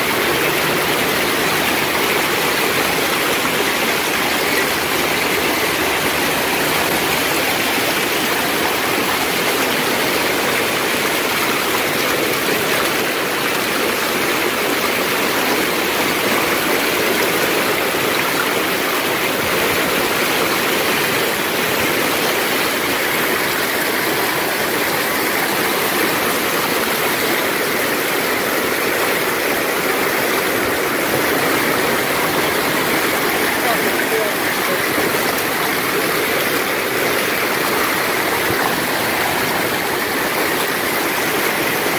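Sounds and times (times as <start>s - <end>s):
hail and rain pelting pavement: 0.0s - 41.9s.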